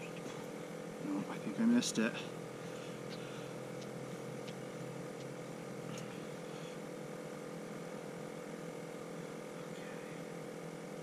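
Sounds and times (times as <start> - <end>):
faint engine hum: 0.0 - 11.0.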